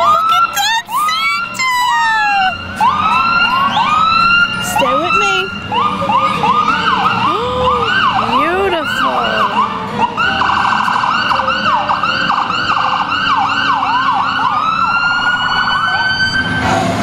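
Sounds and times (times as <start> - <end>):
emergency vehicle sirens warbling: 0.0 - 17.0.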